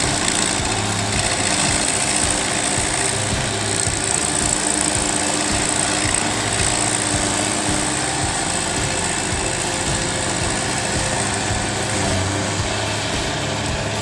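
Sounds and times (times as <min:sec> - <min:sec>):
stump grinder grinding wood: 0:00.0 - 0:14.0.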